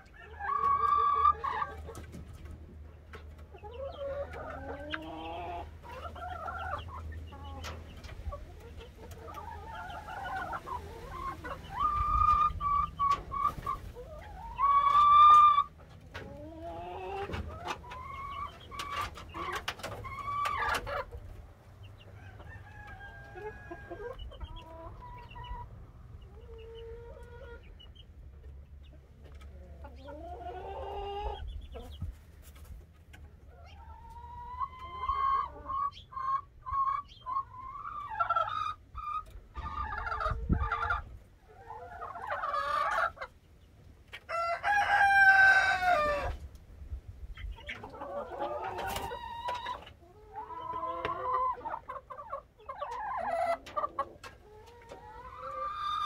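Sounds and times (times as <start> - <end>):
chickens clucking and crowing: 0.0 - 56.0.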